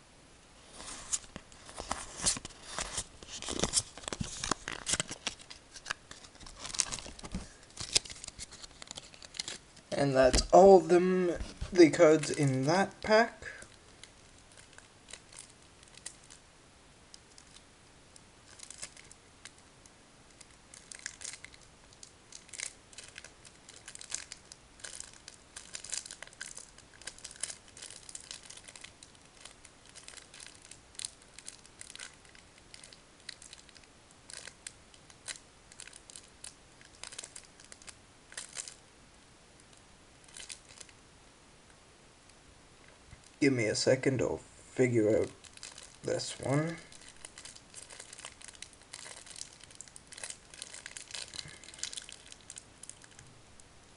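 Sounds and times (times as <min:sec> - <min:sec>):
plastic packaging crinkling: 0:00.8 - 0:16.4, 0:17.1 - 0:17.7, 0:18.4 - 0:19.6, 0:20.3 - 0:38.8, 0:39.6 - 0:41.0, 0:44.8 - 0:53.3.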